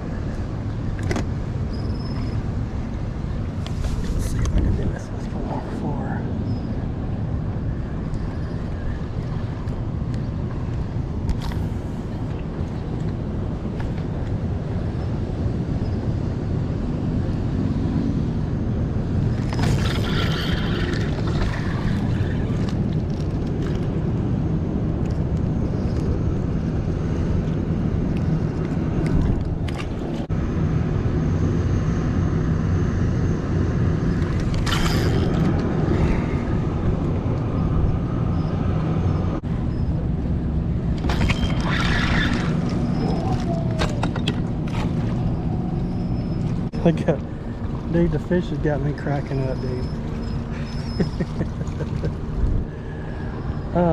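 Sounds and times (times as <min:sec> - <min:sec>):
boat motor humming: 0:00.0 - 0:53.9.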